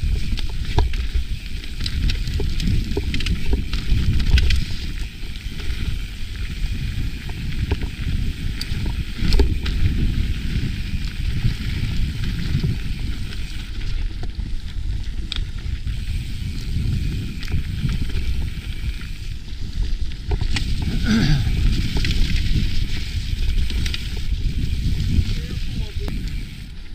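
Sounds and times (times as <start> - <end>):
bike clicks and rattles: 0.0 - 26.9
tyres rumbling on dirt: 0.0 - 26.9
wind buffeting microphone: 0.0 - 26.9.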